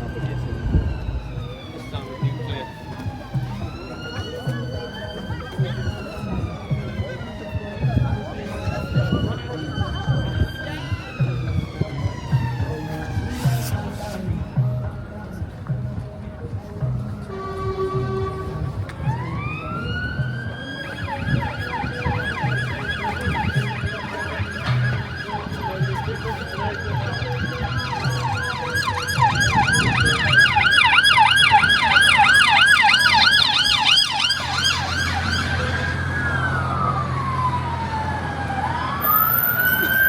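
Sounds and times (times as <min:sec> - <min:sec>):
emergency vehicle siren: 0:00.0 - 0:40.0
low traffic noise: 0:00.0 - 0:40.0.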